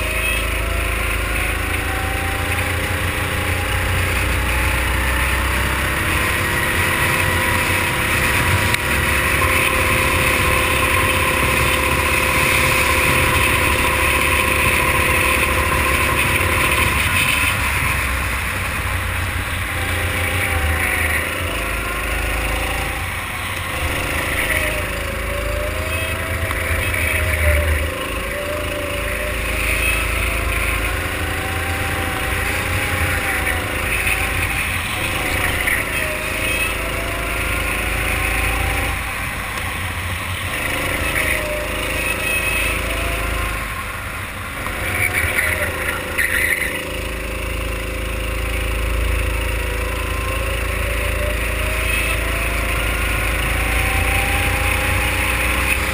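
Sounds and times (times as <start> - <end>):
racing kart engine: 0.0 - 55.9.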